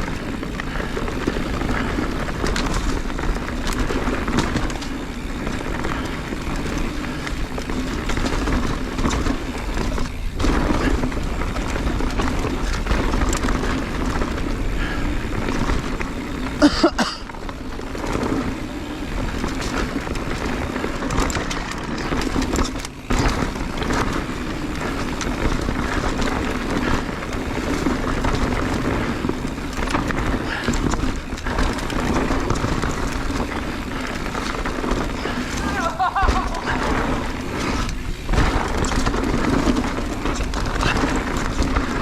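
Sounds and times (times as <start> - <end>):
bike rattling: 0.0 - 42.0
loud bike clatter: 0.0 - 42.0
tyres rumbling on rocky trail: 0.0 - 42.0.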